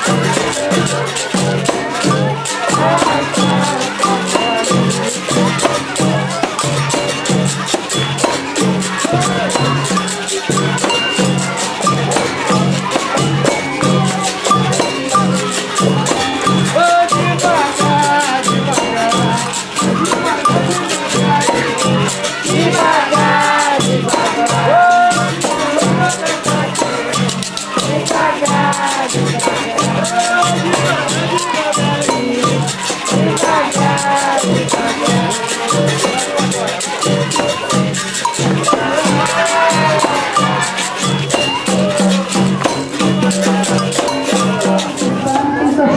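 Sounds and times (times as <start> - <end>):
shaker rattle: 0.0 - 45.3
berimbau playing: 0.0 - 45.9
voices singing: 0.0 - 45.9.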